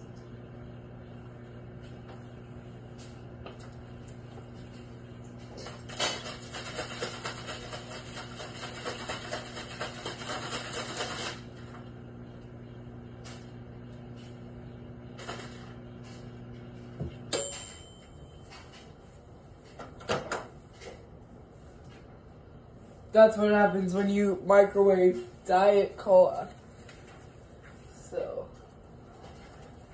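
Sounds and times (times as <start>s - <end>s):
microwave humming: 0.0s - 29.9s.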